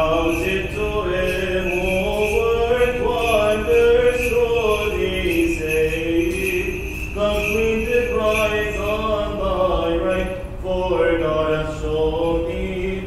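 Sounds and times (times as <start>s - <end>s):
cantor chanting hymn: 0.0s - 13.0s.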